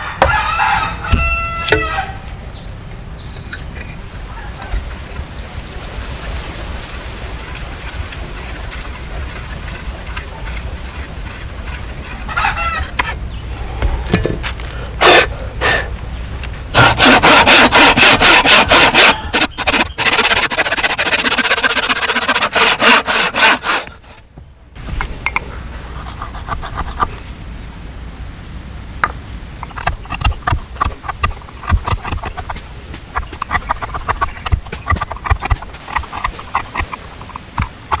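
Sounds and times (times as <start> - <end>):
hand tool scraping wood: 3.5 - 27.2, 29.6 - 38.0.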